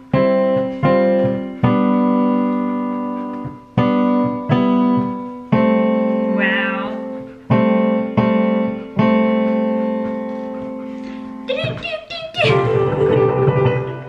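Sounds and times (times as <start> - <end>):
keyboard piano chords: 0.0 - 14.0.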